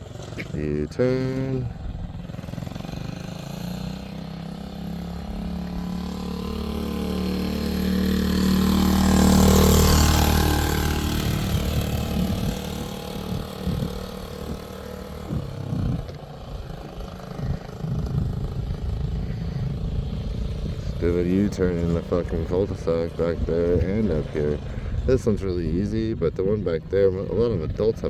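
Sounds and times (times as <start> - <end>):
small motorcycle engine passing: 0.0 - 28.0.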